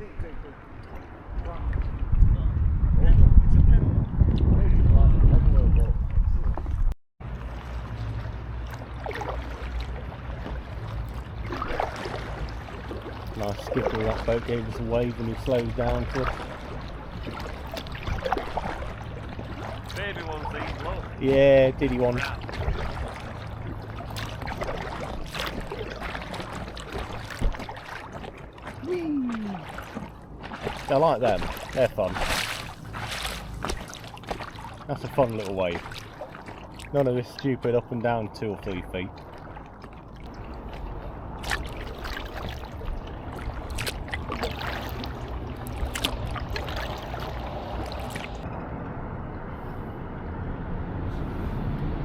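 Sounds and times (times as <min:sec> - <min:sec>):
waves slapping against a kayak: 0:00.0 - 0:48.5
steady low rumble: 0:00.0 - 0:52.0
paddle splashes: 0:06.2 - 0:48.6.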